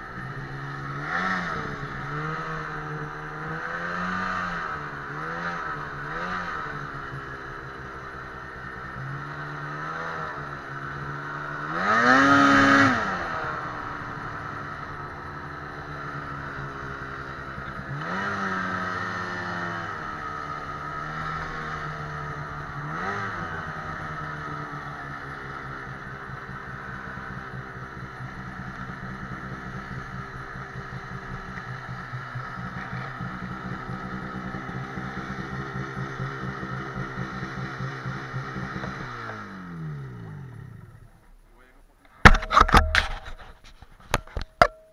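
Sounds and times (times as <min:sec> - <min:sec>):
snowmobile engine revving: 0:00.0 - 0:43.4.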